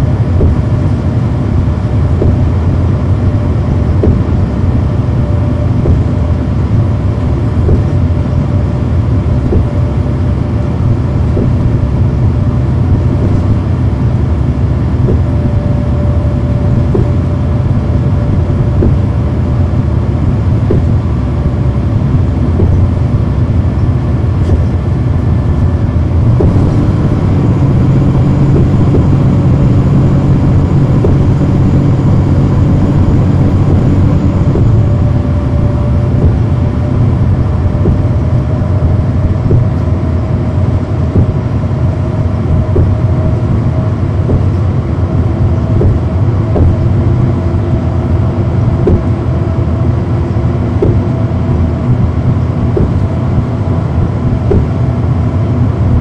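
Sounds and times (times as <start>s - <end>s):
bus diesel engine drone: 0.0s - 56.0s
steady whine: 0.0s - 56.0s.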